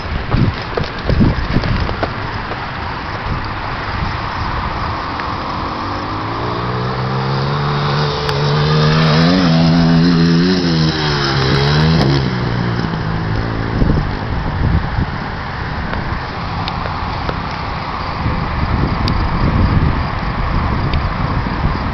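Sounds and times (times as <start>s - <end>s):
dirt bike engine running: 0.0s - 21.9s
wind noise: 0.0s - 21.9s.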